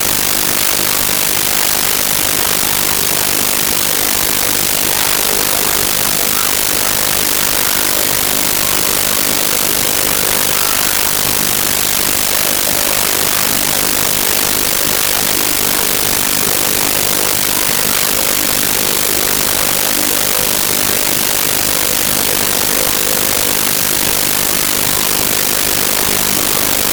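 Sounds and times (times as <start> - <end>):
loud static hiss: 0.0 - 26.9.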